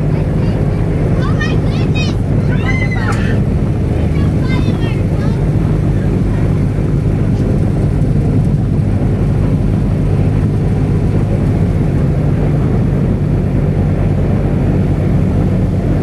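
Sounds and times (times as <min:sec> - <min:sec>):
airboat engine drone: 0:00.0 - 0:16.0.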